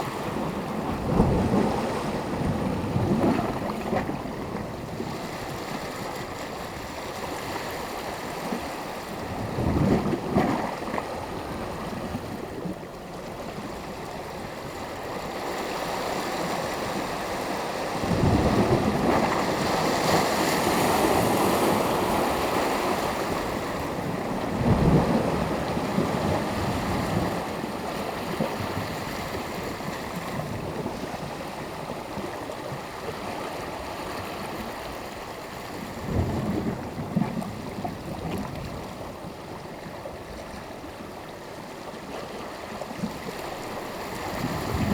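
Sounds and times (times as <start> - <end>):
sea waves breaking on shore: 0.0 - 44.9.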